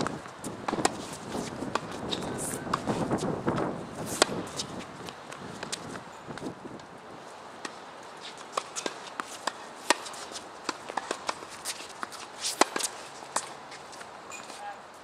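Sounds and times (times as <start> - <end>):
rackets striking tennis ball: 0.0 - 6.5, 7.6 - 14.6
tennis ball bouncing: 0.0 - 6.9, 7.6 - 14.6.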